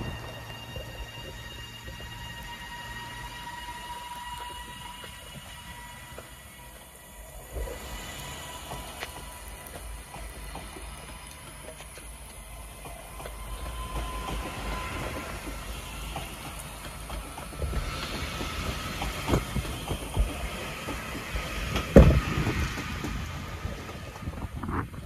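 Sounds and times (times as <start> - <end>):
train rumble with whine: 0.0 - 25.0
wheels clacking over rail joints: 0.0 - 25.0.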